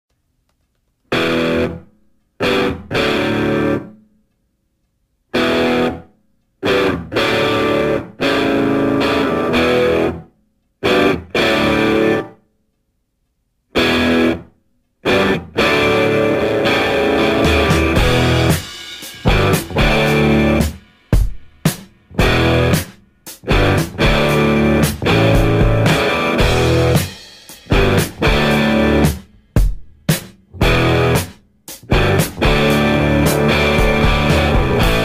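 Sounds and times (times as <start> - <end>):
distorted guitar chords: 1.1 - 4.0, 5.3 - 12.4, 13.7 - 35.0.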